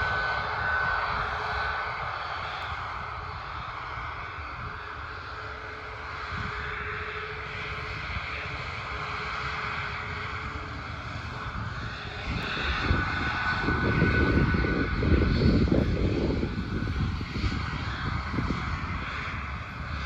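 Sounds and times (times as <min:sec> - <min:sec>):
aircraft engines passing: 0:00.0 - 0:20.0
high engine whine: 0:00.0 - 0:20.0.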